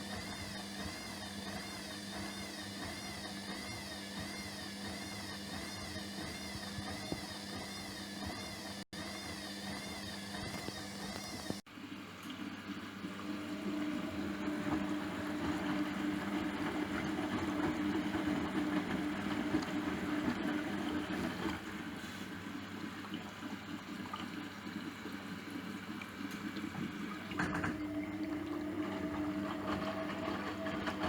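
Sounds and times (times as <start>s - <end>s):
washing machine motor hum: 0.0s - 31.0s
water swishing in drum: 0.0s - 31.0s.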